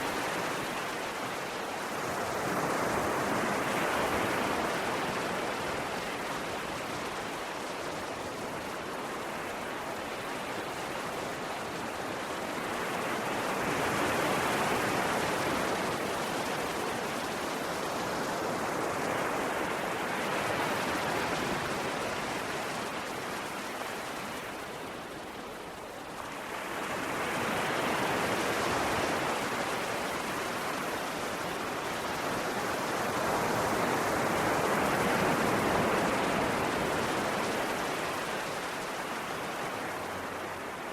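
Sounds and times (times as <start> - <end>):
ocean waves on shore: 0.0 - 40.9.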